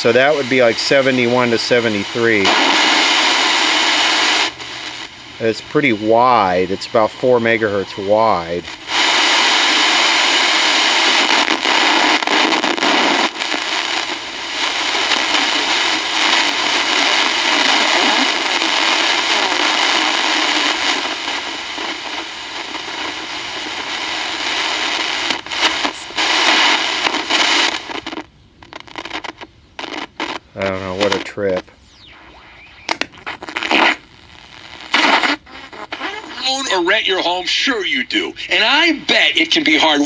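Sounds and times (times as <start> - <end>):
radio static rushing noise: 0.0 - 40.0.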